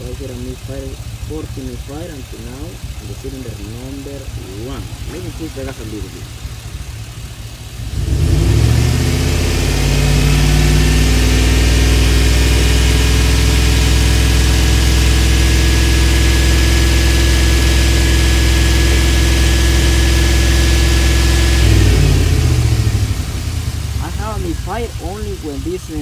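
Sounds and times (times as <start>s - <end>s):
van engine revving: 0.0s - 26.0s.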